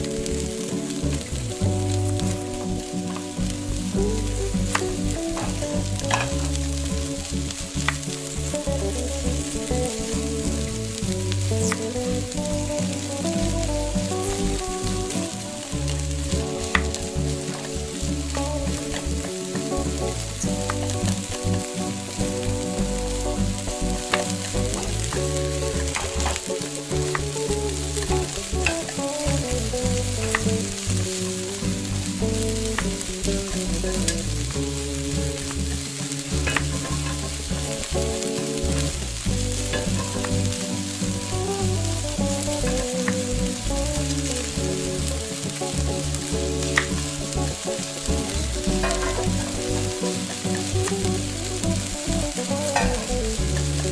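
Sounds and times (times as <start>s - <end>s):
batter sizzling in a pan: 0.0s - 53.9s.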